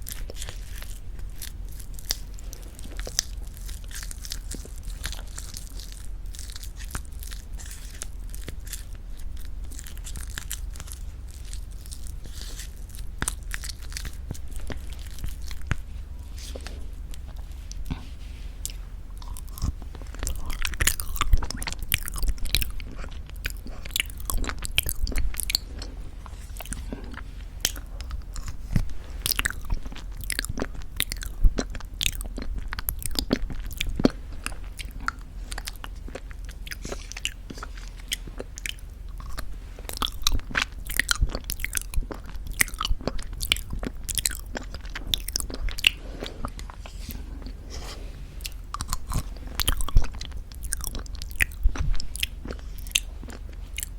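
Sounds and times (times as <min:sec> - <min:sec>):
wet mouth smacking and chewing: 0:00.0 - 0:53.9.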